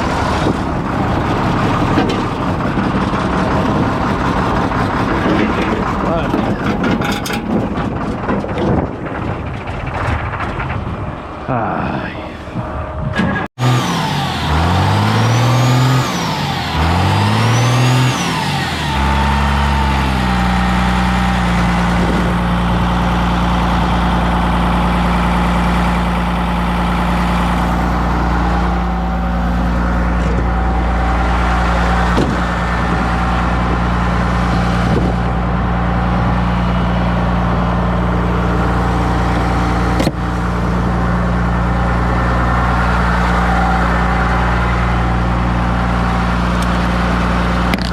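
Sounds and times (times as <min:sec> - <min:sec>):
truck engine revving and idling: 0:00.0 - 0:47.9.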